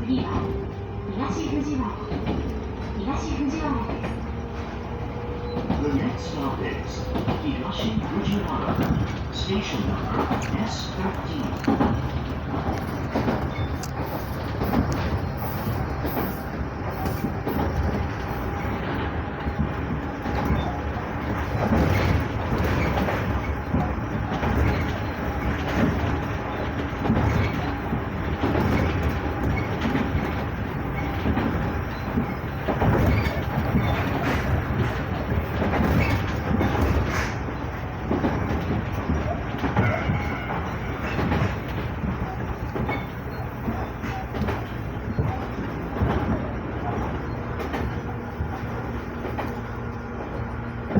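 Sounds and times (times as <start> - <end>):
train wheels rumbling on rail: 0.0 - 50.9
wheels clacking over rail joints: 0.0 - 50.9.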